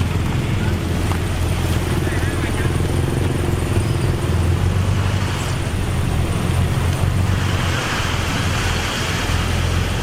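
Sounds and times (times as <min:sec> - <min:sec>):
heavy diesel engine rumbling: 0:00.0 - 0:10.0.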